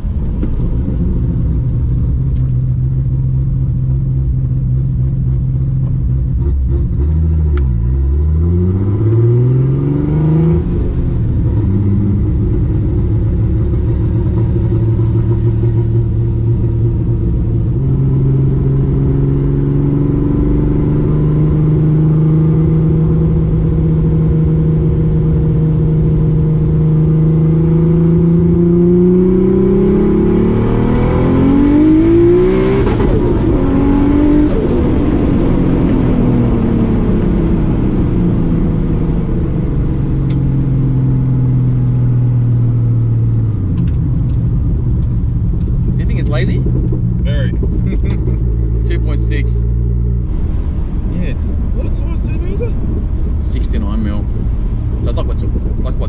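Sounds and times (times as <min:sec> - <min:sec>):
turbocharged car engine revving: 0:00.9 - 0:56.0.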